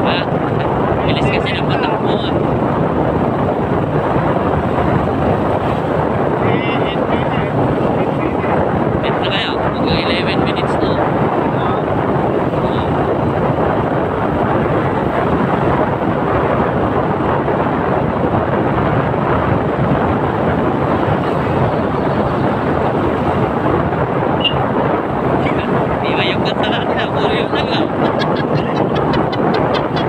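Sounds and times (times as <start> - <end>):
motorcycle running: 0.0 - 30.0
road noise: 0.0 - 30.0
wind buffeting microphone: 0.0 - 30.0.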